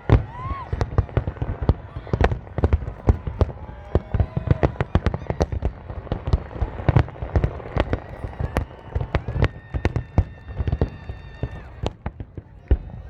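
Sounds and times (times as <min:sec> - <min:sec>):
fireworks whistles: 0:00.0 - 0:12.1
fireworks bangs: 0:00.0 - 0:13.0.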